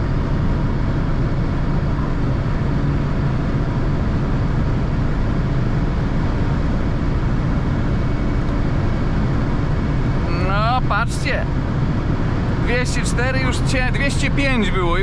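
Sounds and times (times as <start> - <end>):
car engine at high revs: 0.0 - 15.0
wind and road noise: 0.0 - 15.0.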